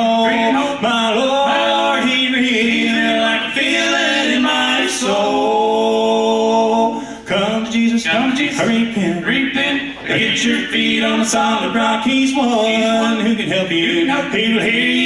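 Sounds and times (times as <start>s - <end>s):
men singing in harmony: 0.0s - 15.0s.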